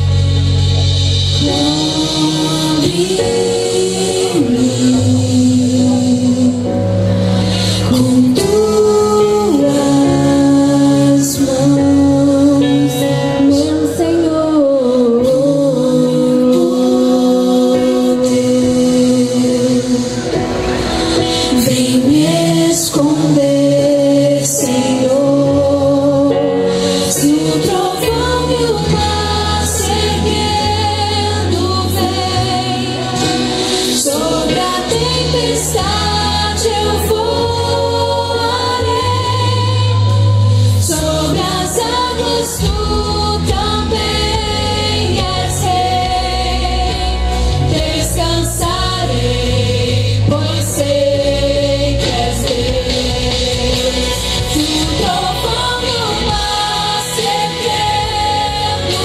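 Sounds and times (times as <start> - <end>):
woman singing gospel song: 1.4 - 7.0, 7.7 - 20.4, 21.4 - 59.0.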